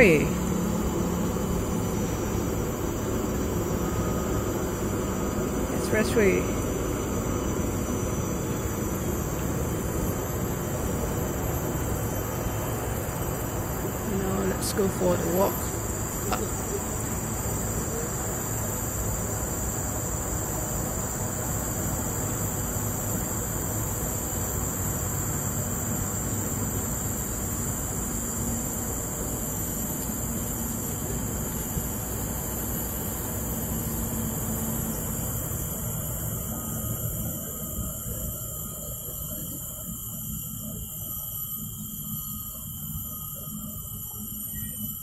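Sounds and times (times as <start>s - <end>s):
expressway traffic rumble: 0.0s - 38.2s
insects droning: 0.0s - 45.0s.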